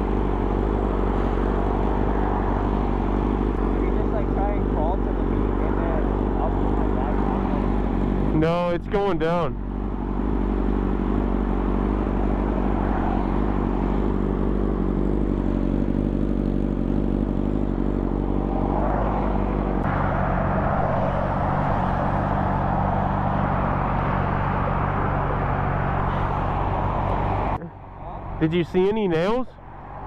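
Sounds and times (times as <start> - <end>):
cars passing on freeway: 0.0 - 30.0
constant low hum: 0.0 - 30.0.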